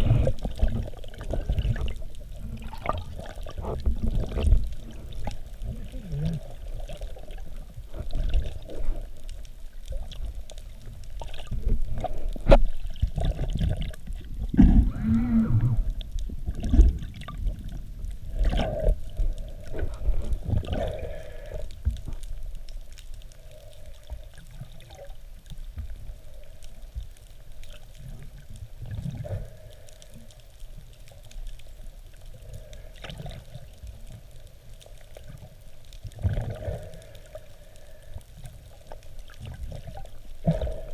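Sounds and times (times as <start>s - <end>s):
water rushing and gurgling underwater: 0.0s - 40.9s.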